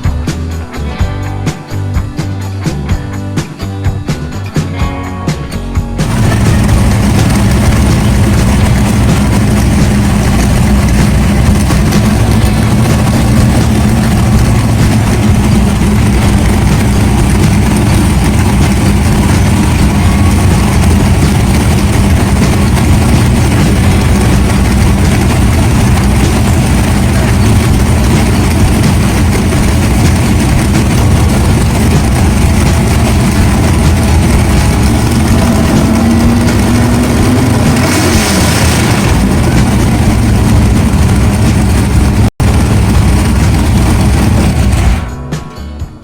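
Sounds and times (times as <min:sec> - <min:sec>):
race car engine running: 0:05.6 - 0:45.2.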